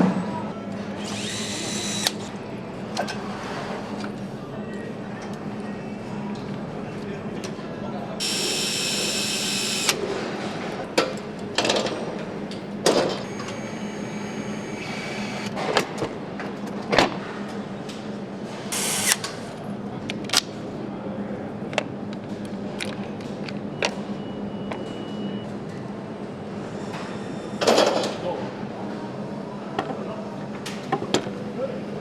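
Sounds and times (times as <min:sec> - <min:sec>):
factory hum: 0:00.0 - 0:32.0.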